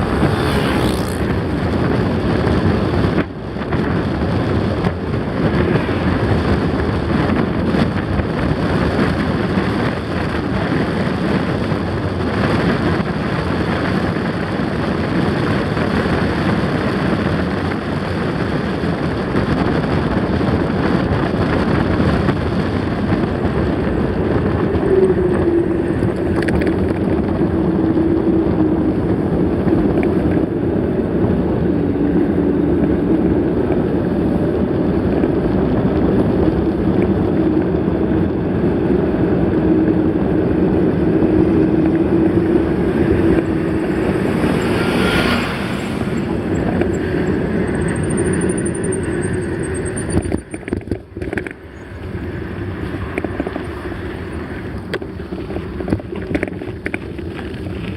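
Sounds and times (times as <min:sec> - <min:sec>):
tyres rumbling on trail: 0:00.0 - 0:57.9
wind buffeting microphone: 0:00.0 - 0:57.9.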